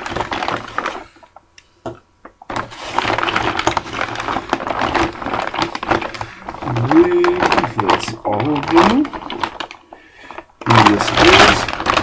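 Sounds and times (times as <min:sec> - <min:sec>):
plastic packaging crinkling: 0:00.0 - 0:01.6, 0:02.2 - 0:12.0.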